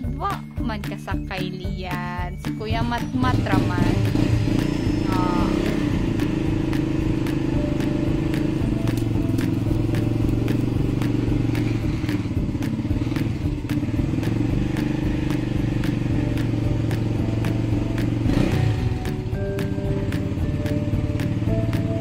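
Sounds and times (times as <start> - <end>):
motorcycle engine idling: 2.3 - 22.0.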